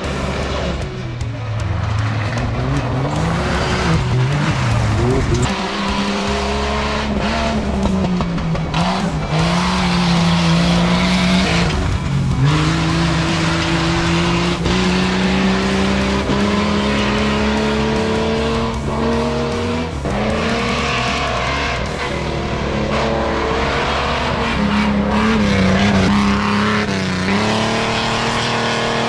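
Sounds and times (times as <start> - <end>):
race engine accelerating: 0.0 - 29.0.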